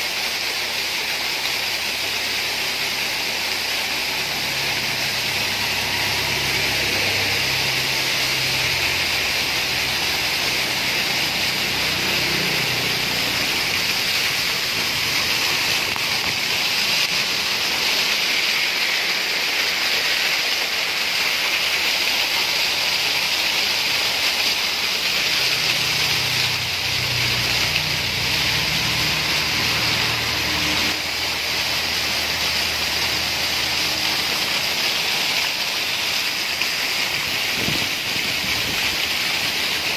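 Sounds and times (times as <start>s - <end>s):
heavy rain hissing: 0.0s - 39.9s
vehicle engine: 0.0s - 39.9s
water pouring over rocks: 0.0s - 39.9s.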